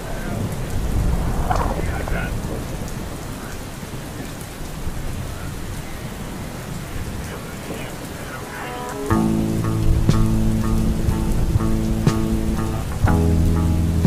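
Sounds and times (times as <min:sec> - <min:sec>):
thunder rolling: 0:00.0 - 0:13.5
rain falling: 0:00.0 - 0:14.0.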